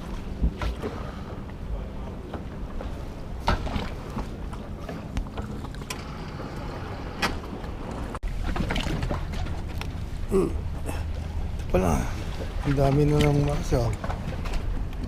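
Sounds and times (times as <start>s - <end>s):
boat low rumble: 0.0s - 15.0s.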